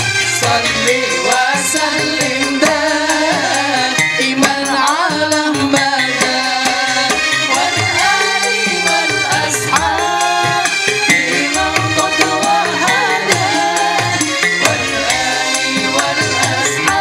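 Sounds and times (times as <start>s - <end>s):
group singing devotional song: 0.0s - 17.0s
instrumental backing: 0.0s - 17.0s
steady percussion beat: 0.0s - 17.0s.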